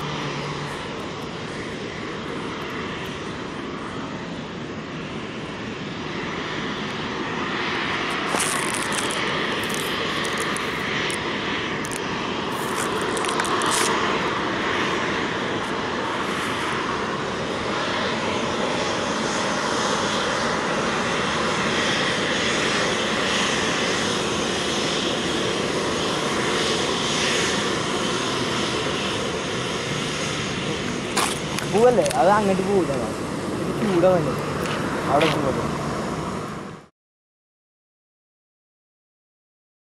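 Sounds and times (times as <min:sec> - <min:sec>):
jet engines rushing: 0:00.0 - 0:36.9.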